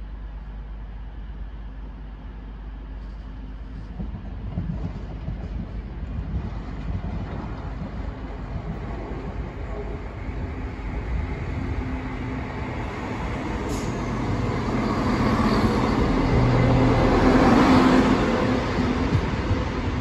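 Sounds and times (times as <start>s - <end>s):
wheel on rail rumble: 0.0s - 20.0s.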